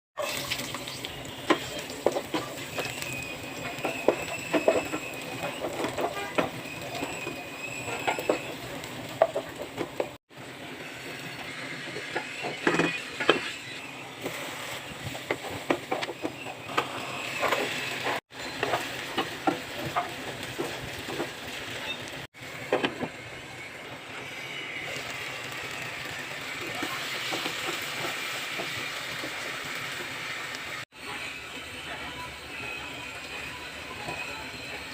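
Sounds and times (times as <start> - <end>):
food sizzling in a pan: 0.2 - 34.9.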